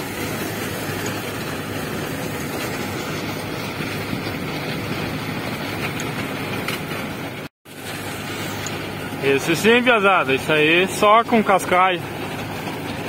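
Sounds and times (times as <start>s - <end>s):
constant rushing noise: 0.0s - 13.0s
engine humming: 0.0s - 13.0s.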